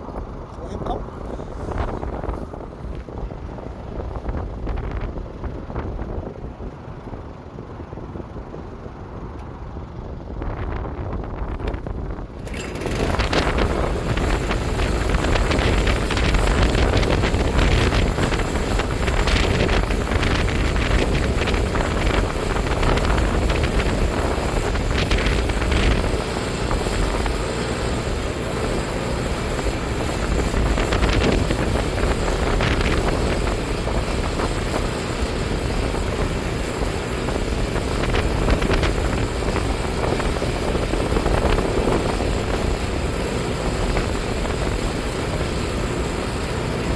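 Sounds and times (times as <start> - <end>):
tractor diesel engine running: 0.0 - 46.9
wind buffeting microphone: 0.0 - 46.9.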